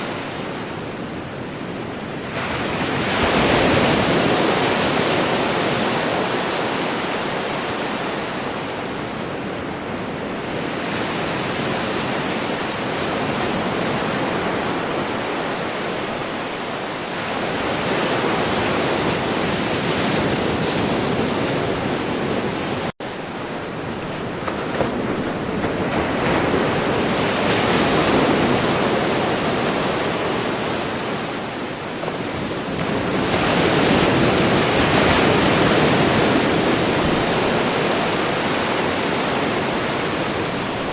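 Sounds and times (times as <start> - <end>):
ocean waves washing onto shore: 0.0 - 40.9.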